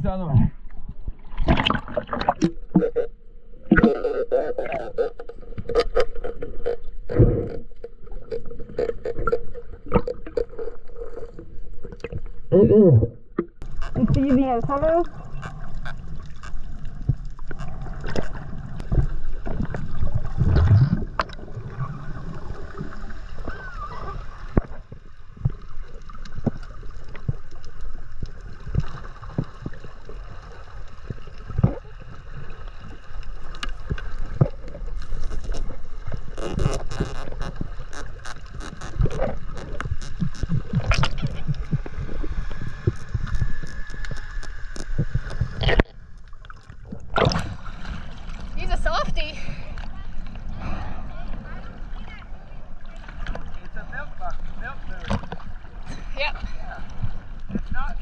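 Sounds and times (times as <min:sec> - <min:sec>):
underwater water movement rumble: 0:00.0 - 0:58.0.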